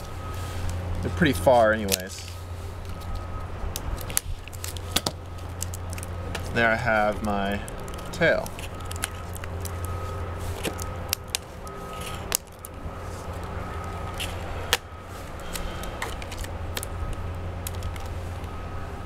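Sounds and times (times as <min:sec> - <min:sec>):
steady low hum: 0:00.0 - 0:19.0
plastic housing clicking and crinkling: 0:01.8 - 0:18.6.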